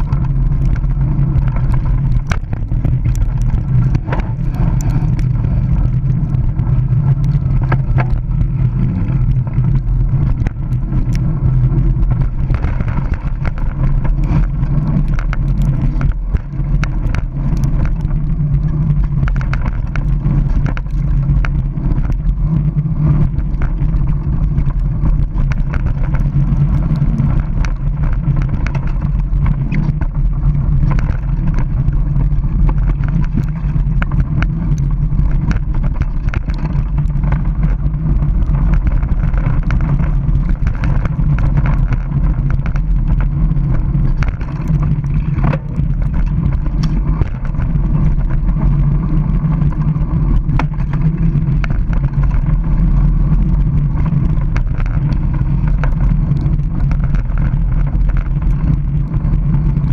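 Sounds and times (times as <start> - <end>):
bike clicking and rattling: 0.0 - 59.9
bike tyres rumbling on dirt: 0.0 - 59.9.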